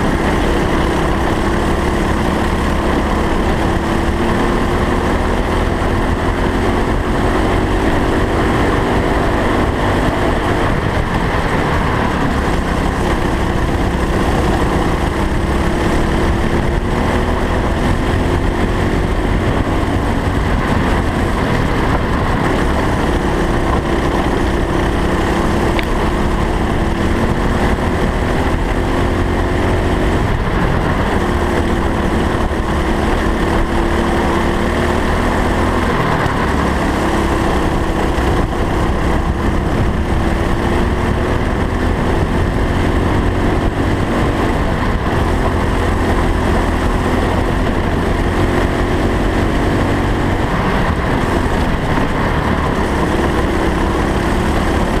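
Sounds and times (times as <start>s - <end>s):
racing kart engine: 0.0s - 55.0s.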